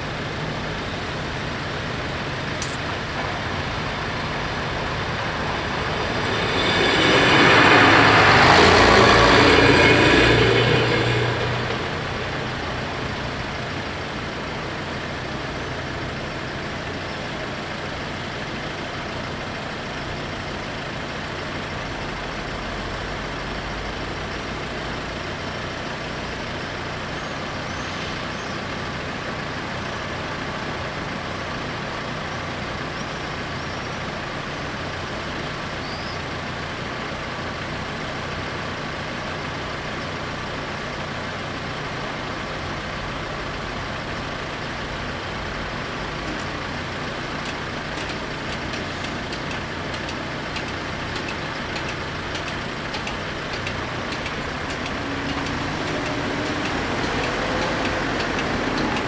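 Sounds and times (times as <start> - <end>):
car engine pulling away: 0.0 - 59.0
cars idling and street traffic: 0.0 - 59.0.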